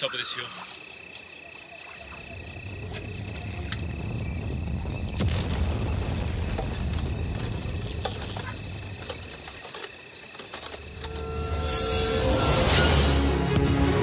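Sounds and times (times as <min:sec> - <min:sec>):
insects trilling: 0:00.0 - 0:13.2.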